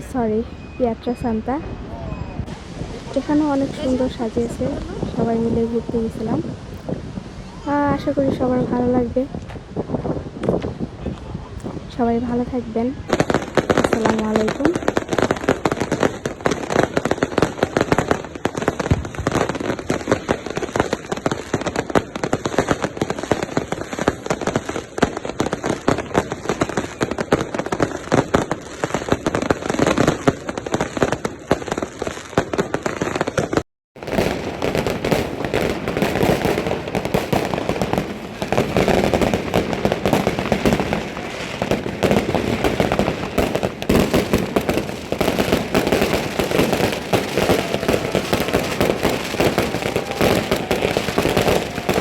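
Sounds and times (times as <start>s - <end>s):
fireworks and firecrackers banging: 0.0s - 52.0s.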